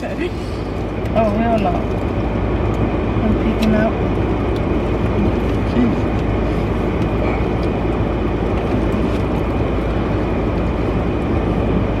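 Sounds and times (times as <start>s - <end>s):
vehicle running: 0.0s - 12.0s.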